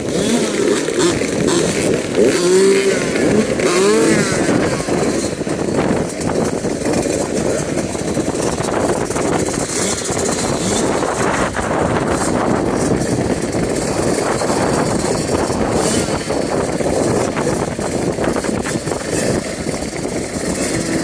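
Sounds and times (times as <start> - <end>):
motocross bike engine droning: 0.0 - 21.0.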